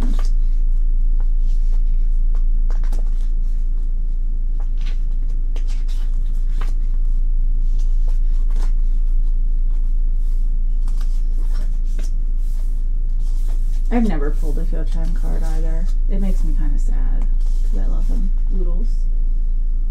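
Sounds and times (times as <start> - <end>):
pages turning: 0.0 - 0.7, 1.4 - 3.9, 4.5 - 16.6, 17.2 - 18.5
low hum: 0.0 - 19.9.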